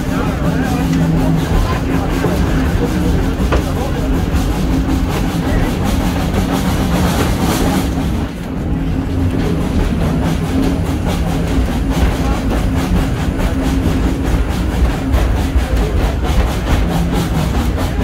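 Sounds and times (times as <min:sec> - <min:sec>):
steam locomotive working: 0:00.0 - 0:18.0
wheels on rails: 0:00.0 - 0:18.0.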